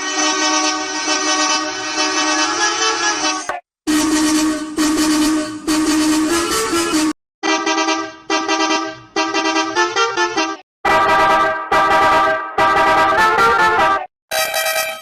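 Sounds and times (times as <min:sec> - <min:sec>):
bus horn blasts: 0:00.0 - 0:14.1.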